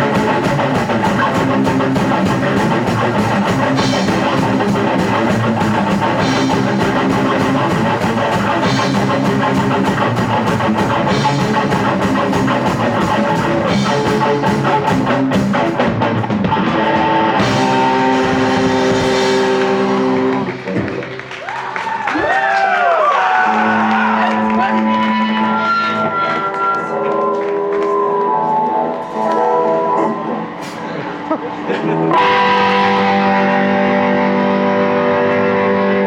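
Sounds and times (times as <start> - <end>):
punk rock band playing live: 0.0 - 21.7, 28.8 - 36.0.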